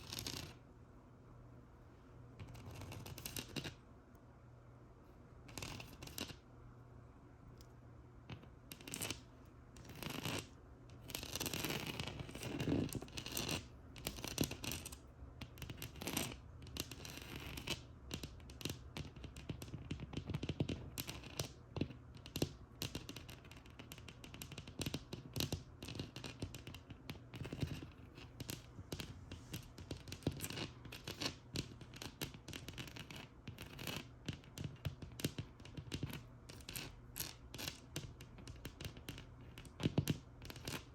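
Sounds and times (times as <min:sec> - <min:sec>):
scratching on textured wall: 0:00.0 - 0:00.6, 0:01.9 - 0:03.9, 0:05.1 - 0:06.5, 0:07.6 - 0:40.9.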